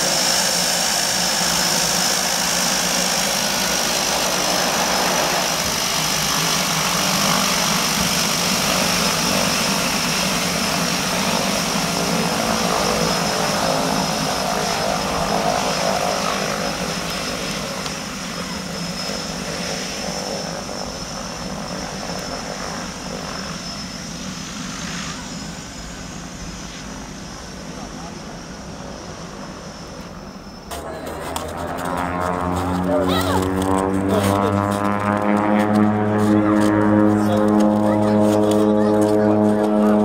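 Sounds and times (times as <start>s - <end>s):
high turbine whine: 0.0s - 40.0s
propeller plane engines running: 0.0s - 40.0s.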